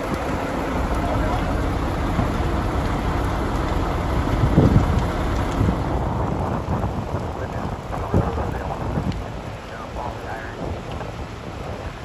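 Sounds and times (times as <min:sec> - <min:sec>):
wildfire crackling and rumbling: 0:00.0 - 0:12.0.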